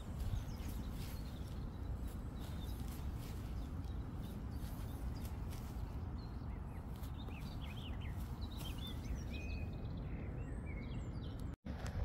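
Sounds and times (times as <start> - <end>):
small birds chirping: 0.0 - 11.6
wind rumble on microphone: 0.0 - 12.0.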